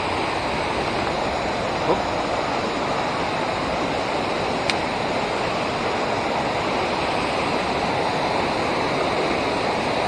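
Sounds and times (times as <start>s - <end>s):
water pouring over a dam: 0.0s - 10.0s.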